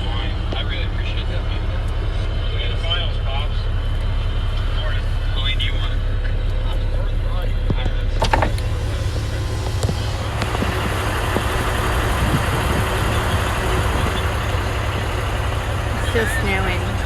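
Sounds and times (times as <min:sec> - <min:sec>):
truck idling: 0:00.0 - 0:17.0.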